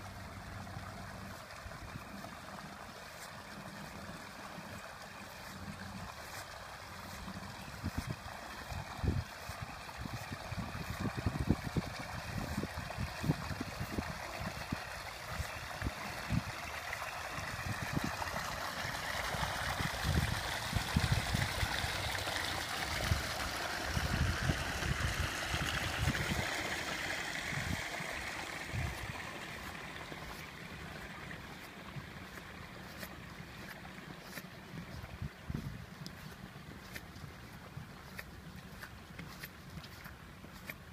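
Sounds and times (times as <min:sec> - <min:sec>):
water gushing into pond: 0:00.0 - 0:40.9.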